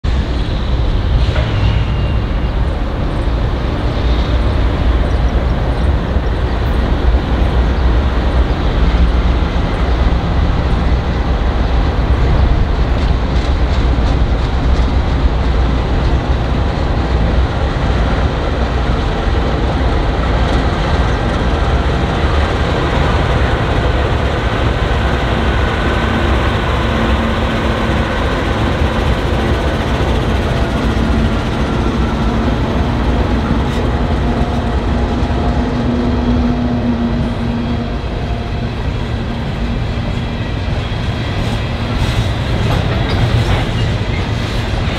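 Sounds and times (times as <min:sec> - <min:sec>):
diesel locomotive engine rumble: 0:00.0 - 0:44.9.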